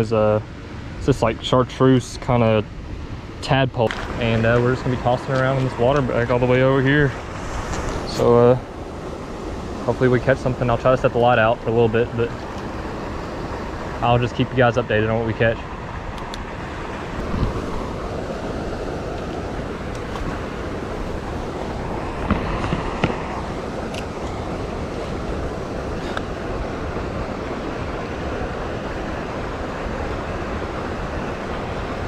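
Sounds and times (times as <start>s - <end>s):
water rushing below a spillway: 3.5s - 32.0s.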